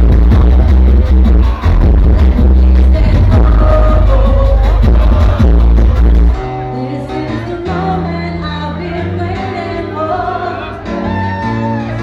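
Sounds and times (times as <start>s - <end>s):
woman singing: 0.0s - 5.6s, 6.5s - 11.0s.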